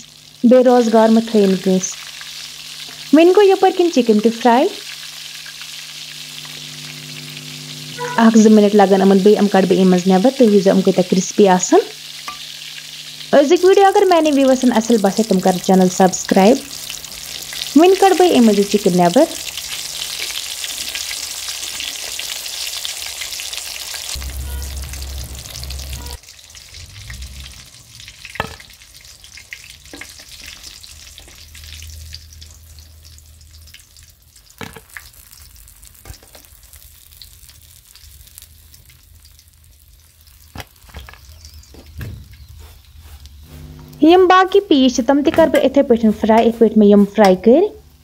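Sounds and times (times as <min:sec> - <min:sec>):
chicken sizzling in hot oil: 0:00.0 - 0:48.0.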